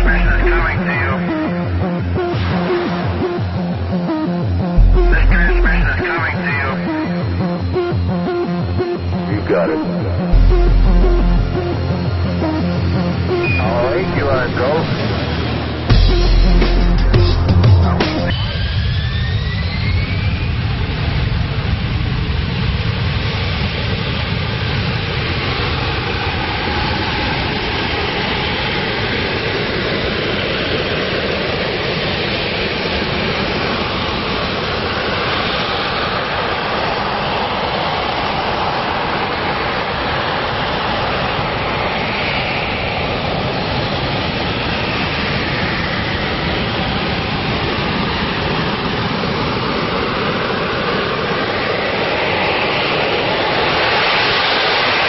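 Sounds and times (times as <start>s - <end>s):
jet engine roaring with whine: 0.0s - 55.0s.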